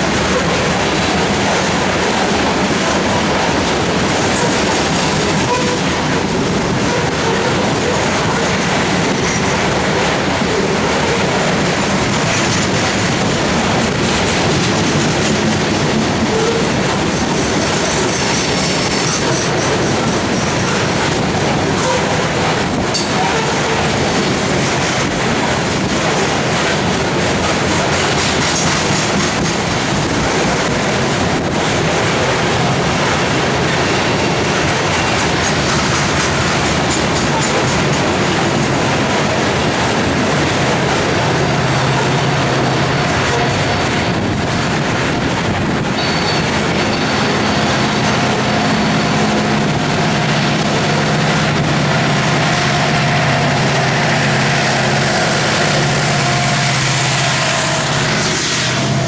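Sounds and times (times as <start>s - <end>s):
diesel locomotive engine hum: 0.0s - 59.0s
train wheels rumbling and clacking: 0.0s - 59.0s.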